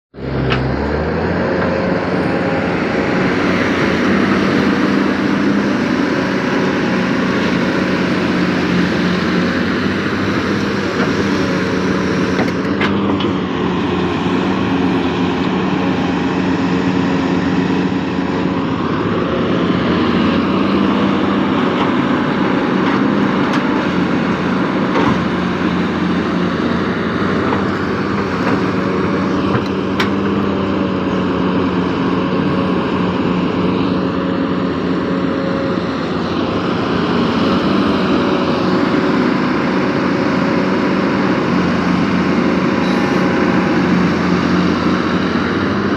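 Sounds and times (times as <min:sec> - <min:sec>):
excavator diesel engine droning: 0:00.2 - 0:45.9.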